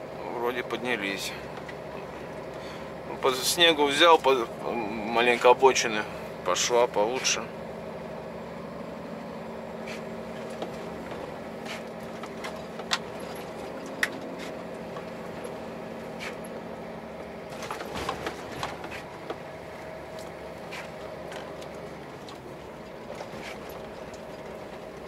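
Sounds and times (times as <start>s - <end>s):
truck diesel engine running: 0.0s - 25.0s.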